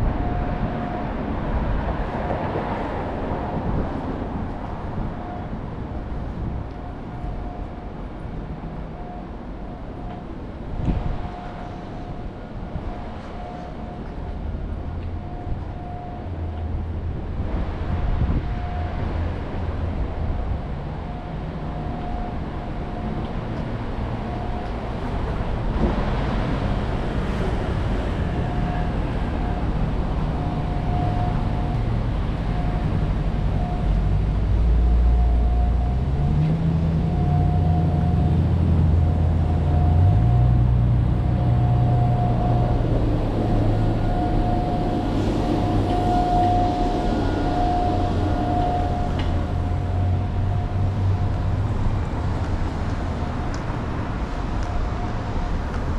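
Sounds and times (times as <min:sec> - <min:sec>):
engine low drone: 0:00.0 - 0:55.9
passing vehicles rumble: 0:00.0 - 0:55.9.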